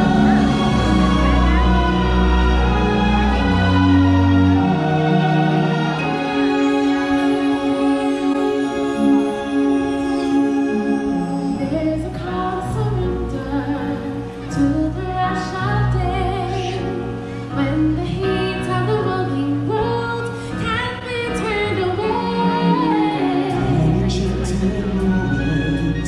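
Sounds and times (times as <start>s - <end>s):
instrumental backing with bass: 0.0s - 26.0s
singer with vibrato: 0.0s - 26.0s.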